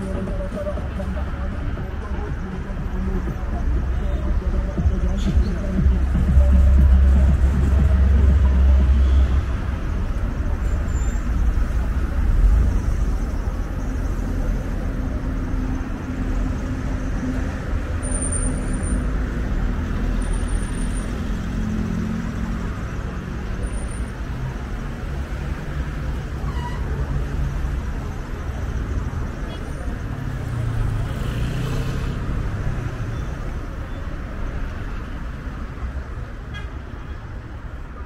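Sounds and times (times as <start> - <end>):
cars driving past: 0.0 - 38.0.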